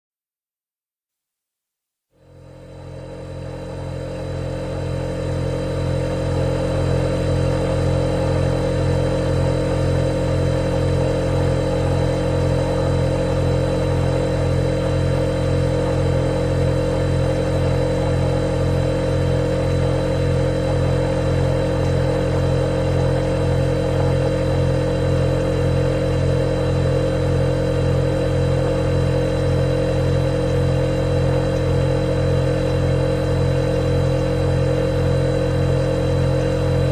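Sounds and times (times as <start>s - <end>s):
refrigerator humming: 2.2s - 36.9s.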